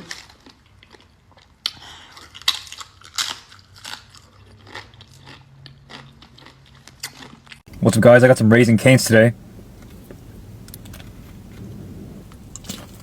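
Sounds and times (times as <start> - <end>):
person chewing crunchy food: 0.0 - 7.6, 9.8 - 13.0.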